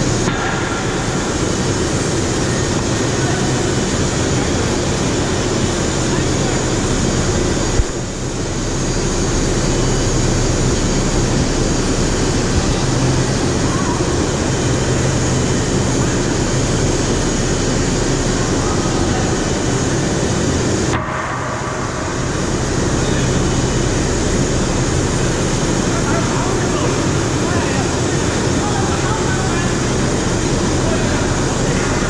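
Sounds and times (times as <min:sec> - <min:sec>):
overhead crane machinery drone: 0:00.0 - 0:32.0.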